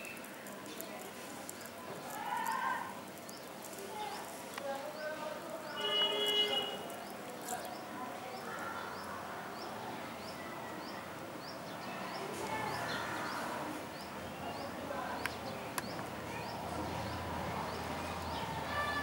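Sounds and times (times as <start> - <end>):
birds calling faintly: 0.0 - 19.0.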